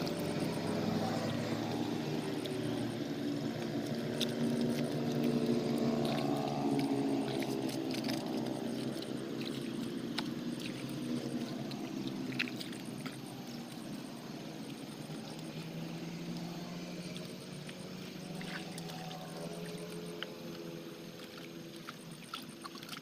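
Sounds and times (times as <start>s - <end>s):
motor engine running: 0.0s - 23.0s.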